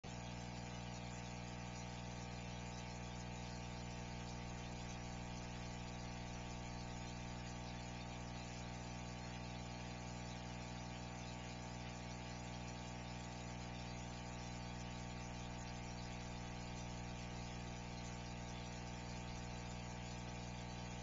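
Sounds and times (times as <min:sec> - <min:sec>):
electrical hum with buzz: 0:00.1 - 0:21.0.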